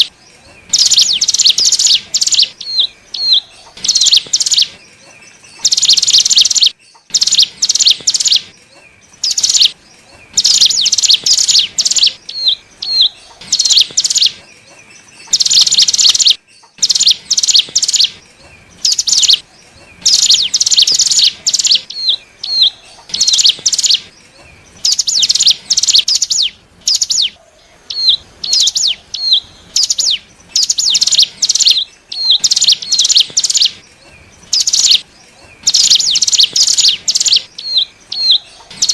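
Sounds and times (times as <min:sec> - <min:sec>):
bird down-slurred calls: 0:00.0 - 0:38.9
bird high chattering song: 0:00.0 - 0:38.9.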